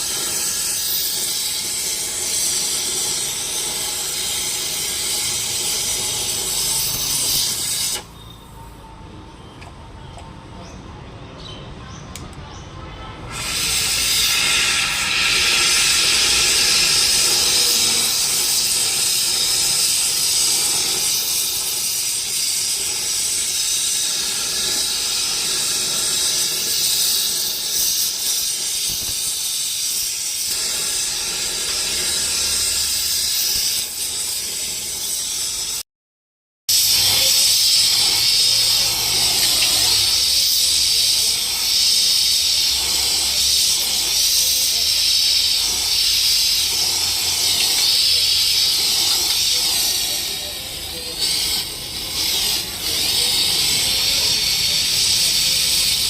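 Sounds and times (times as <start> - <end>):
air tool hissing: 0.0 - 8.7, 13.2 - 35.8, 36.7 - 56.0.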